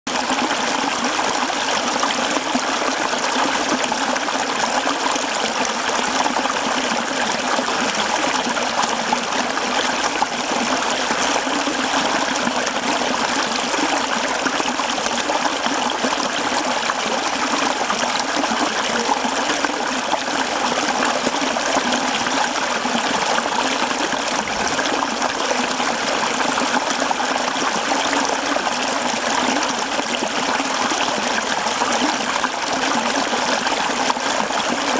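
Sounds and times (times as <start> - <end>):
stream babbling over rocks: 0.1 - 34.9.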